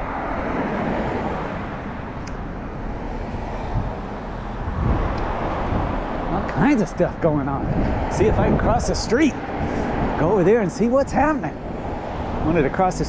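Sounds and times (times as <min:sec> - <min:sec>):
cars driving on city road: 0:00.0 - 0:13.0.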